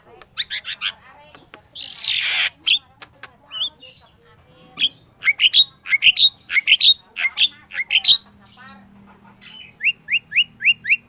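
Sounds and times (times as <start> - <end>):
bird calling: 1.8 - 11.0.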